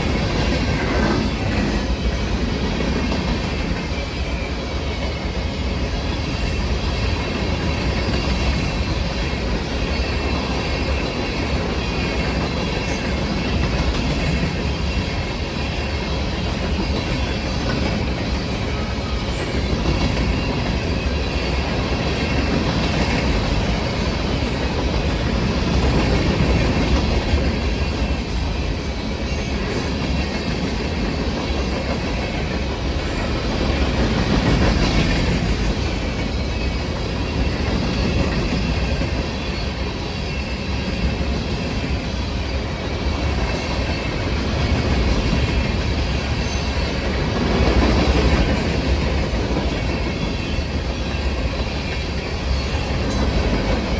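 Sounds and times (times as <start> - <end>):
freight train rumbling and clattering: 0.0 - 53.9.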